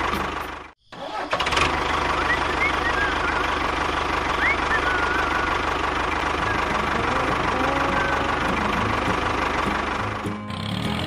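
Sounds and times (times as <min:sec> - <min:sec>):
motor chugging steadily: 0:01.6 - 0:11.0.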